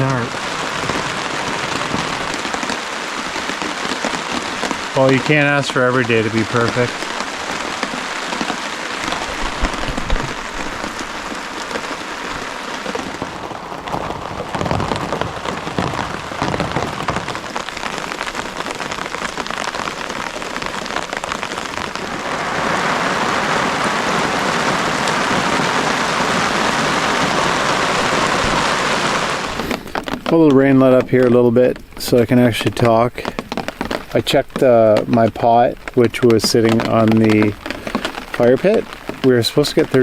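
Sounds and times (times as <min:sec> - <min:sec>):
heavy rain on a tarp: 0:00.0 - 0:40.0.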